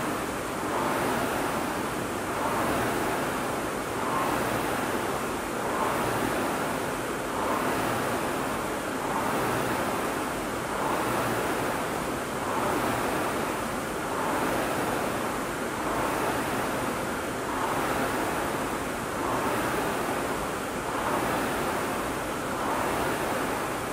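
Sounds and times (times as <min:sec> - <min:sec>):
rowing machine flywheel whooshing: 0:00.0 - 0:23.9.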